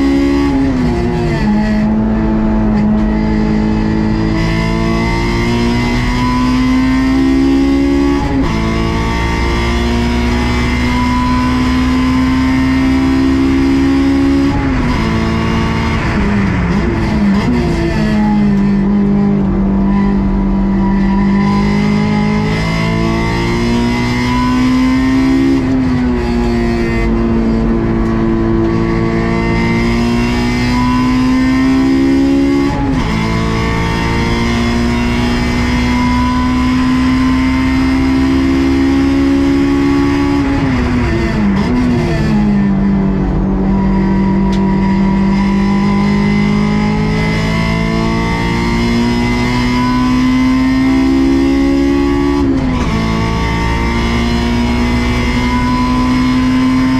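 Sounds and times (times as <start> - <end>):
car engine revving on track: 0.0 - 56.9.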